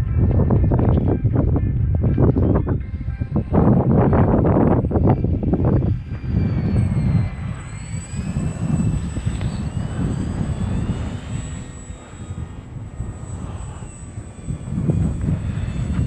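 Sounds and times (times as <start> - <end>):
model airplane motor whine: 0.0 - 16.0
wind buffeting microphone: 0.0 - 16.0.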